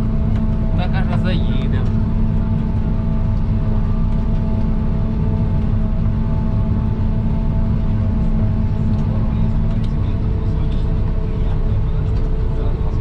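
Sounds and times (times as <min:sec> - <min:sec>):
harvester low drone: 0:00.0 - 0:13.0.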